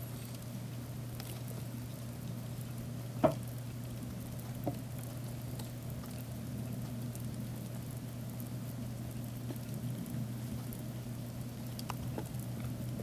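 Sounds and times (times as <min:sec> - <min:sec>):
crickets crawling and scratching: 0:00.0 - 0:13.0
steady low hum: 0:00.0 - 0:13.0.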